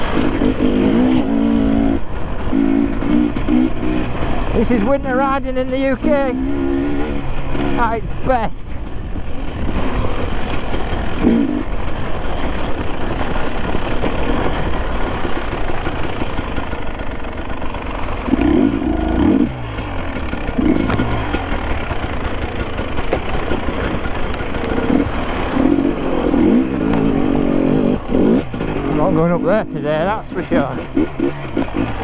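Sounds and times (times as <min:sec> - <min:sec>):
constant rushing noise: 0:00.0 - 0:32.0
motorcycle engine revving: 0:00.0 - 0:32.0.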